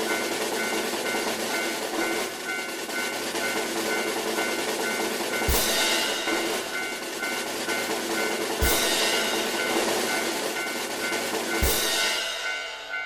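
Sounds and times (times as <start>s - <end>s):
crossing bell ringing two-tone: 0.0s - 13.0s
train clattering past: 0.0s - 13.0s.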